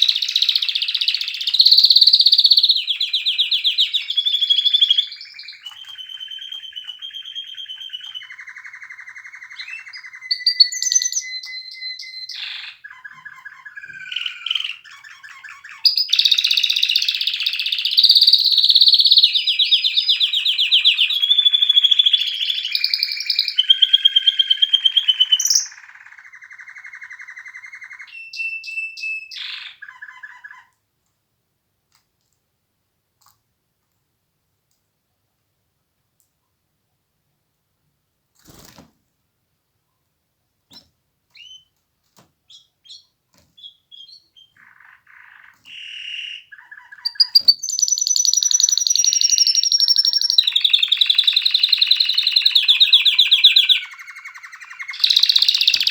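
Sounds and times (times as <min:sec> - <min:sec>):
canary singing fast trills: 0:00.0 - 0:30.8, 0:40.7 - 0:41.8, 0:42.5 - 0:55.9.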